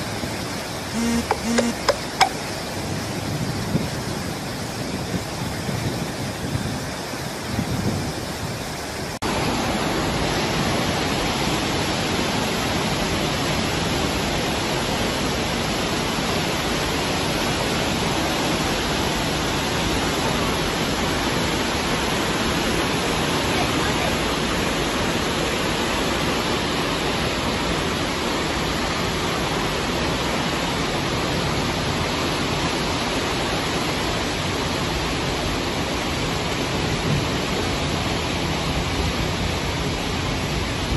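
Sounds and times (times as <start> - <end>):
muddy water rushing: 0.0 - 1.0, 1.8 - 40.9.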